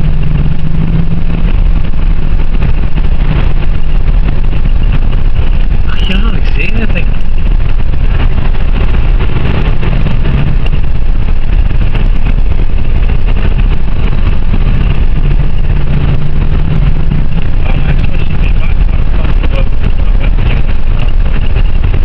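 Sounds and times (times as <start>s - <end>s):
car engine tyre and wind noise: 0.0s - 22.0s.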